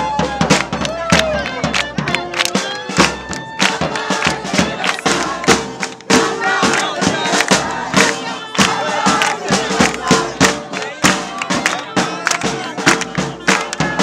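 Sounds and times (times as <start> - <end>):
crowd shouting and clapping: 0.0 - 14.0.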